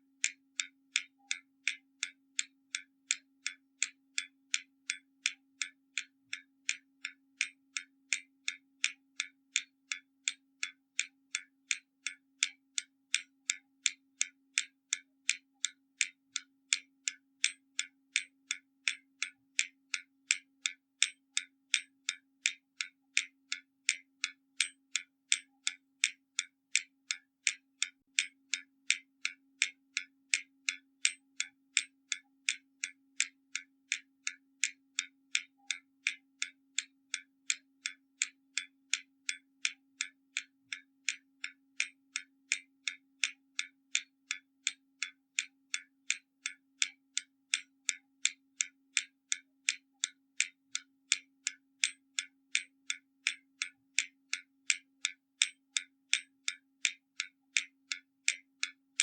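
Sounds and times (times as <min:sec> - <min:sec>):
mechanical clock ticking: 0:00.0 - 0:59.0.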